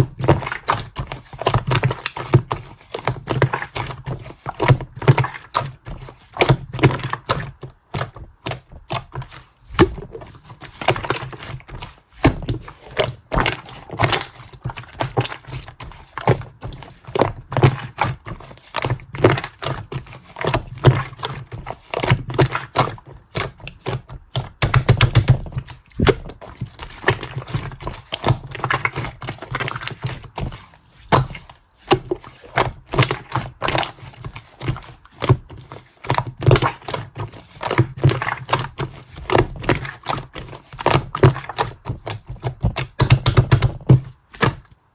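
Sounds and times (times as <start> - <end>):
slime squished by hand: 0.0 - 44.9.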